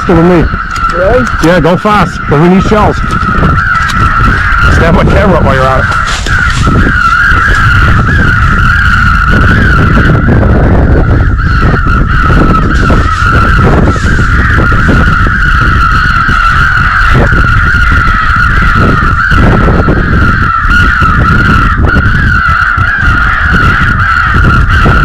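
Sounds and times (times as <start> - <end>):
high wind whistle: 0.0 - 25.0
wind buffeting microphone: 0.0 - 25.0.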